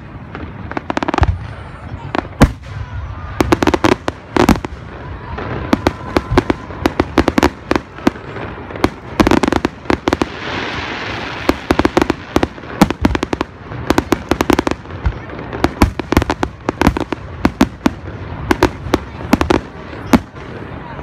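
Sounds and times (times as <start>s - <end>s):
firework hiss: 0.0s - 20.5s.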